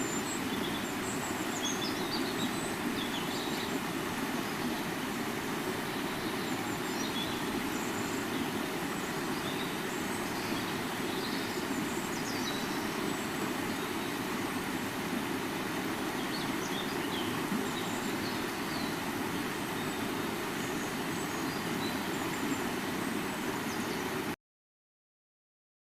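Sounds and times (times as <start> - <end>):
river water flowing: 0.0 - 24.4.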